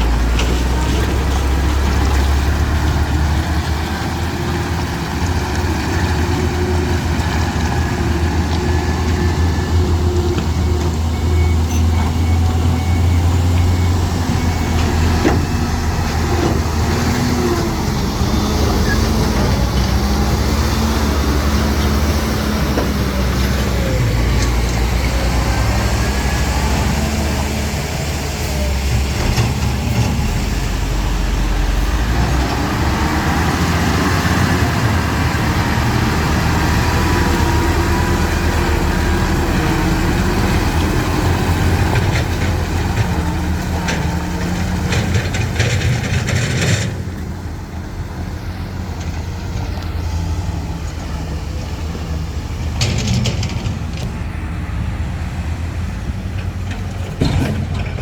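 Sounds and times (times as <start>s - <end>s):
heavy diesel engines under load: 0.0s - 58.0s.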